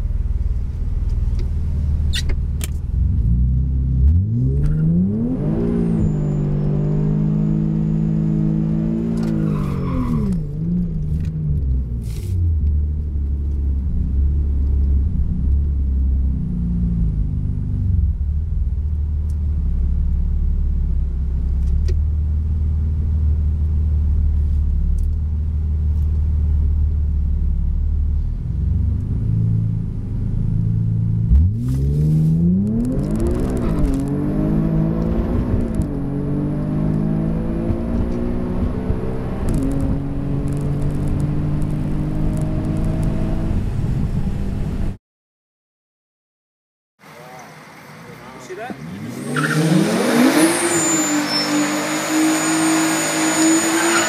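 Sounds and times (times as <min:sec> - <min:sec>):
car engine revving and idling: 0:00.0 - 0:45.0, 0:47.1 - 0:54.0.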